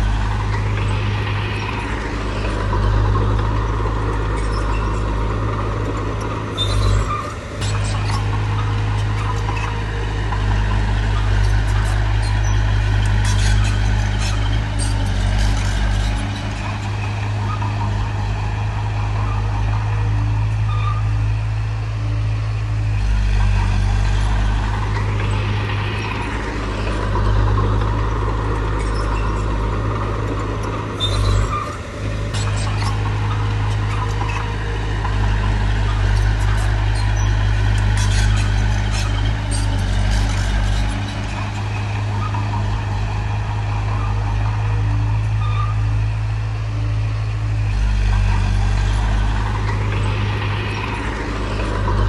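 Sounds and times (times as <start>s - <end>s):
heavy diesel engine under load: 0.0s - 52.0s.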